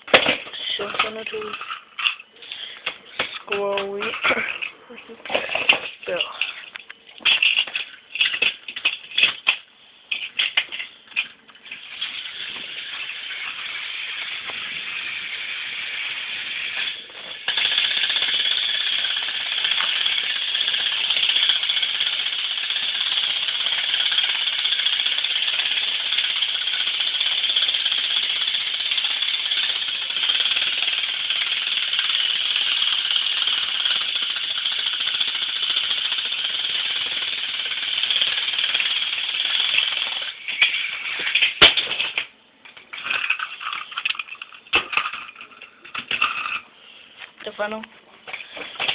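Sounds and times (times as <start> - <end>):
toy train motors whirring: 0.1 - 46.7, 48.3 - 48.9.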